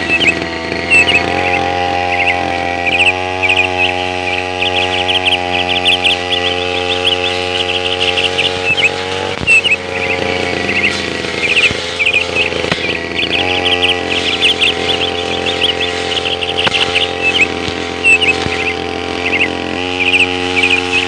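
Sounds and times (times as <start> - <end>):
birds chirping: 0.0 - 21.0
brush cutter engine running: 0.0 - 21.0.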